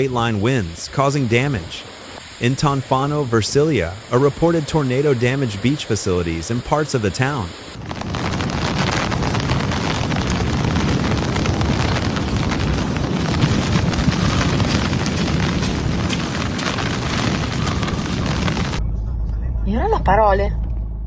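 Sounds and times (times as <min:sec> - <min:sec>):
storm wind blasting microphone: 0:00.0 - 0:21.0.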